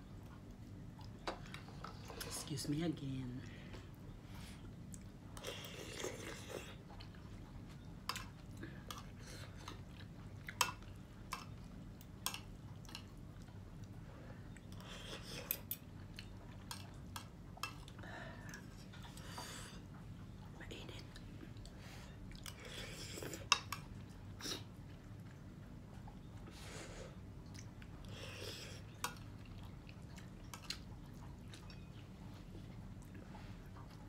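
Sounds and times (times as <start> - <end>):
chewing food: 0.0 - 2.5, 3.1 - 34.0.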